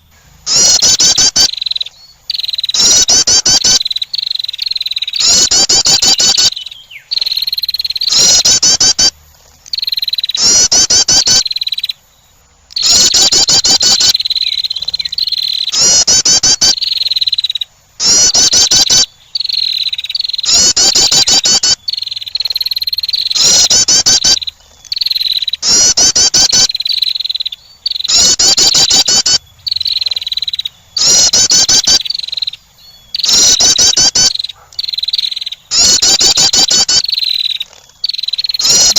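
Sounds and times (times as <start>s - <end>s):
wren call rattling trills: 0.0s - 38.9s.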